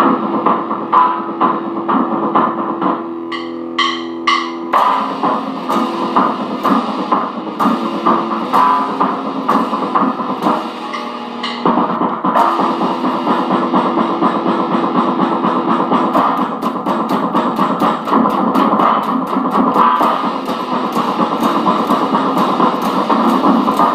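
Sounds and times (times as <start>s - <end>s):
electric guitar picked: 0.0s - 23.9s.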